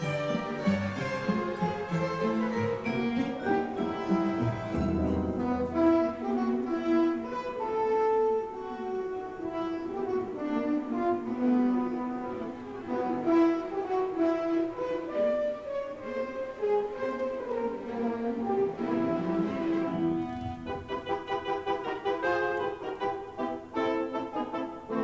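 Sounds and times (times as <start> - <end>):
orchestral music: 0.0 - 25.0.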